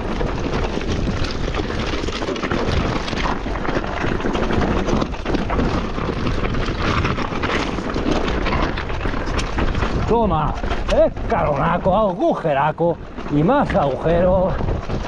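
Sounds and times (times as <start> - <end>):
bike rattling and knocking: 0.0 - 15.0
bike tyres crunching over rocks: 0.0 - 15.0
wind rumble on microphone: 0.0 - 15.0.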